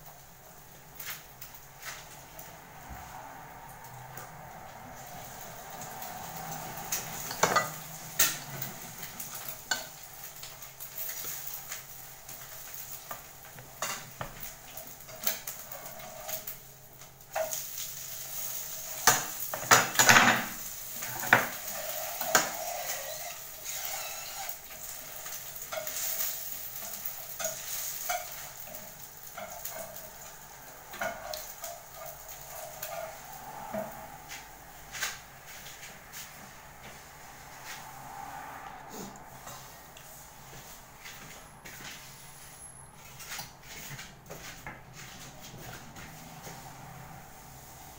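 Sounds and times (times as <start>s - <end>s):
food sizzling in a frying pan: 0.0s - 42.7s, 46.0s - 47.9s.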